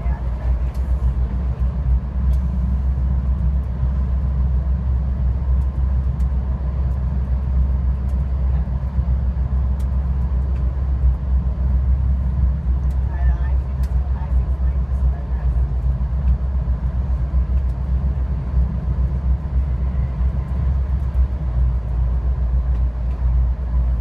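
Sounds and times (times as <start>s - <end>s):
train rumble from inside: 0.0s - 24.0s.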